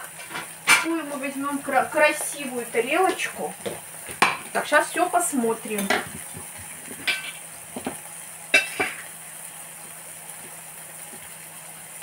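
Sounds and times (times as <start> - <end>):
food sizzling in covered pan: 0.0 - 12.0.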